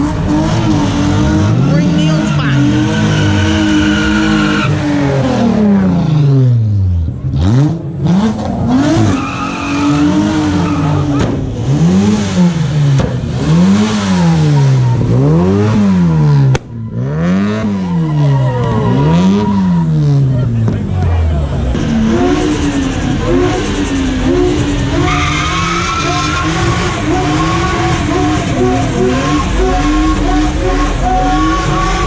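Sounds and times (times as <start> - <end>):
car engine revving hard: 0.0 - 32.0.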